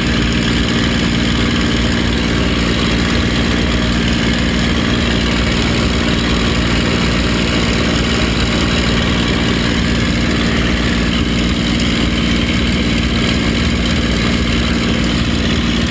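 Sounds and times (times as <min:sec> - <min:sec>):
aircraft engine and propeller droning: 0:00.0 - 0:15.9.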